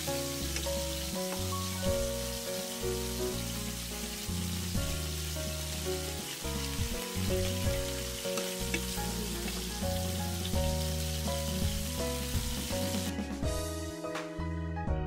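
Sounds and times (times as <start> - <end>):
meat sizzling on grill pan: 0.0 - 13.2
background music with bass line: 0.0 - 15.0.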